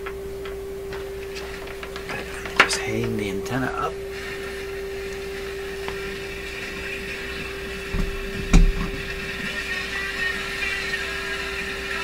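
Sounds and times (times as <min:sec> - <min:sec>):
steady test tone from radio speaker: 0:00.0 - 0:12.0.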